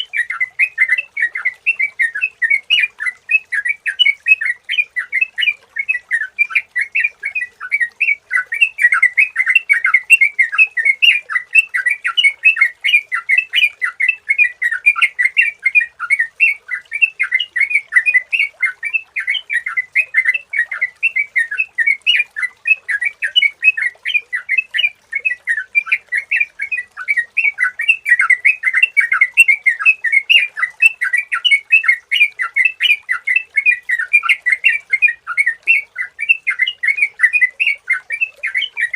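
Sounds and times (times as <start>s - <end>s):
bird singing fast chirps: 0.0s - 38.9s.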